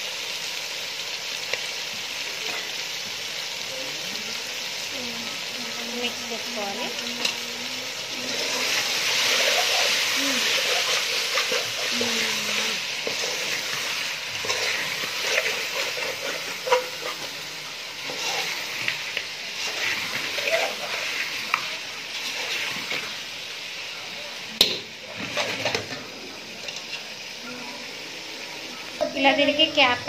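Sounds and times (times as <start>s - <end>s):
meat sizzling in hot oil: 0.0s - 30.0s.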